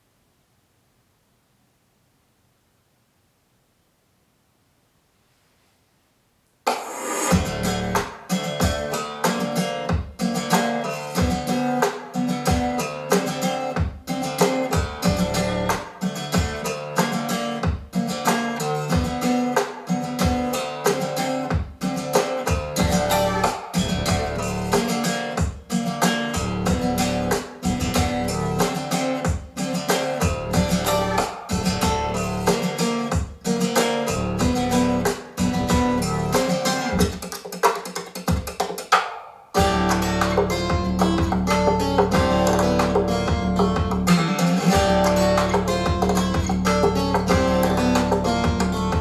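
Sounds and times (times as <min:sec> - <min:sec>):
strummed guitar song with bass: 0:07.3 - 0:37.2, 0:39.6 - 0:49.0.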